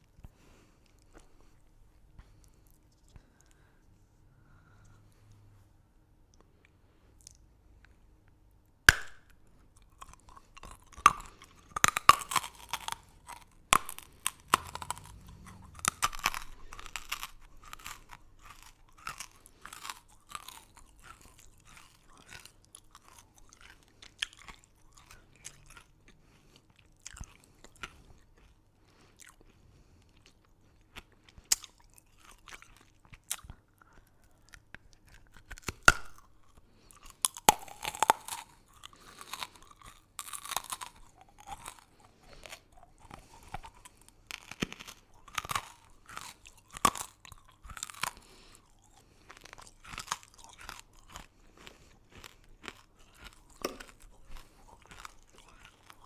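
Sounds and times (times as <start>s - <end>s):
crunching and chewing candy: 0.0s - 3.9s, 6.3s - 56.0s.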